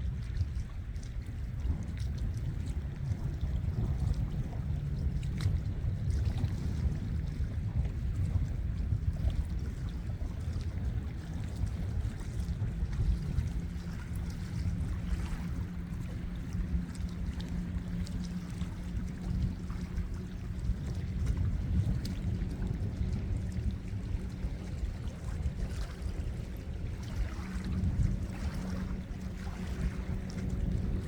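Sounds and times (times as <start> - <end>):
wind and water rumble: 0.0 - 31.0.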